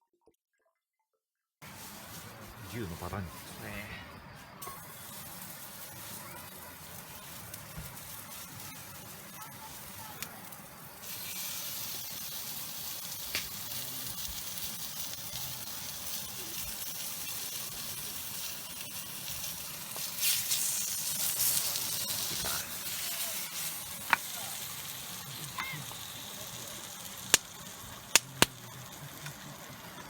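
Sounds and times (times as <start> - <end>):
meat sizzling in a frying pan: 1.6 - 30.0.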